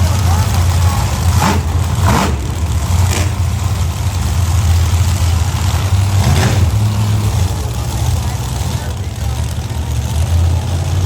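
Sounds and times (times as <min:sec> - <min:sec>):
truck engines idling: 0:00.0 - 0:11.0.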